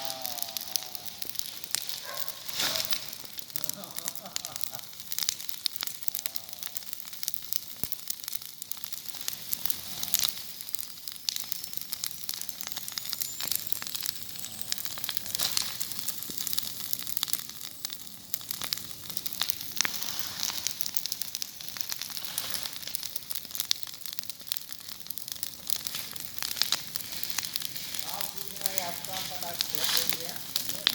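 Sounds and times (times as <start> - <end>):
vegetation fire crackling and popping: 0.0 - 30.9.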